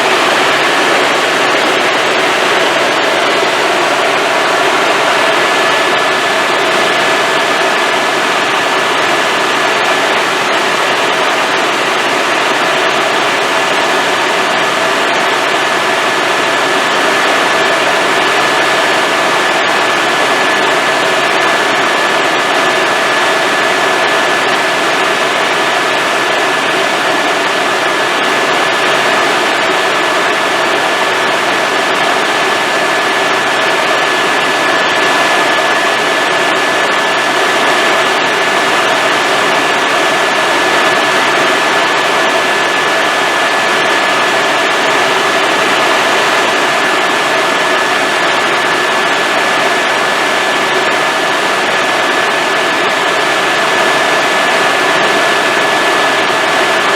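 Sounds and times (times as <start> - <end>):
constant high whine: 0.0 - 56.9
helicopter engine and rotor noise: 0.0 - 56.9.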